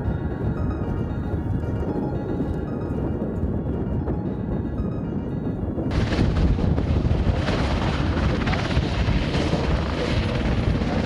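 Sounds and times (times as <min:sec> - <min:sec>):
helicopter rotor beat: 0:00.0 - 0:11.0
high whine: 0:00.0 - 0:11.0.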